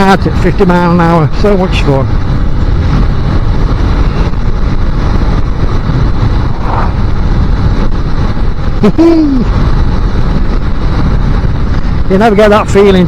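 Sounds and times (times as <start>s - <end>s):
motorcycle engine: 0.0s - 13.0s
road noise: 0.0s - 13.0s
wind noise on microphone: 0.0s - 13.0s.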